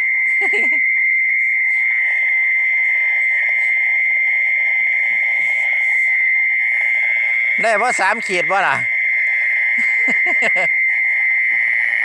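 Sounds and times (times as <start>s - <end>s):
frog chorus: 0.0s - 12.0s
high-pitched insect drone: 0.0s - 12.0s.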